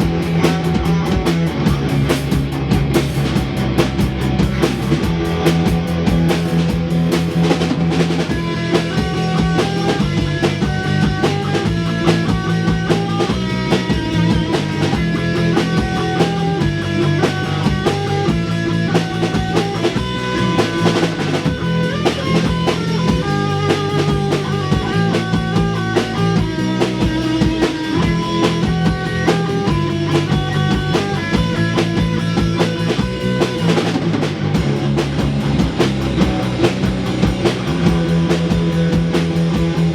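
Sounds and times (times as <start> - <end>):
bass: 0.0 - 39.9
drum kit: 0.0 - 39.9
guitar: 0.0 - 39.9.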